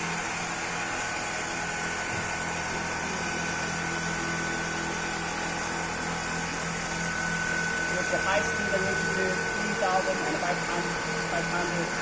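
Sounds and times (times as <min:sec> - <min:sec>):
sewing machine running: 0:00.0 - 0:12.0.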